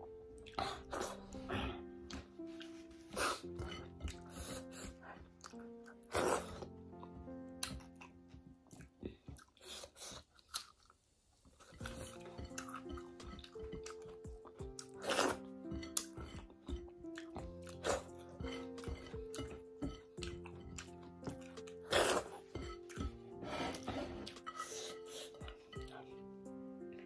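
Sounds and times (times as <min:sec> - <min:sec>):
soft background music: 0:00.0 - 0:27.0
person chewing food: 0:00.4 - 0:01.4, 0:03.1 - 0:26.2.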